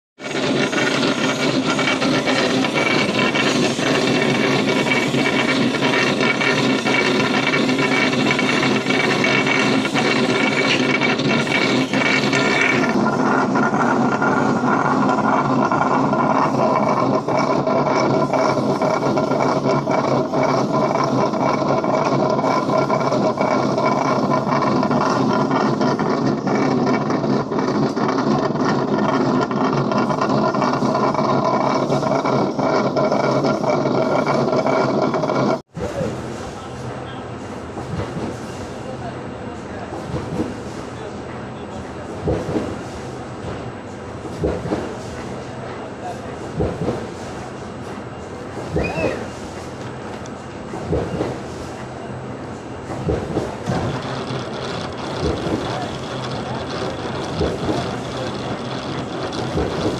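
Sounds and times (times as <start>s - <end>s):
machine rollers droning: 0.2s - 59.9s.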